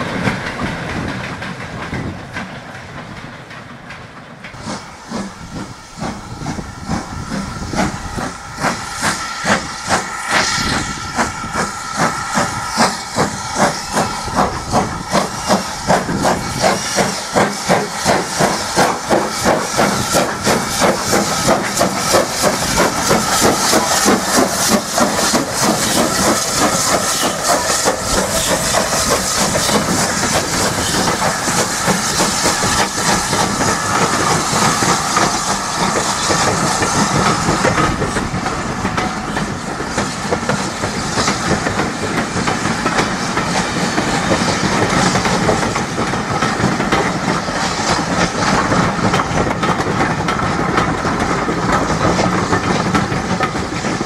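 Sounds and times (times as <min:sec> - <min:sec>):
steam hiss: 0:00.0 - 0:03.0, 0:03.6 - 0:54.0
steam locomotive exhaust beats: 0:00.0 - 0:54.0
train wheels clicking over rail joints: 0:00.0 - 0:54.0.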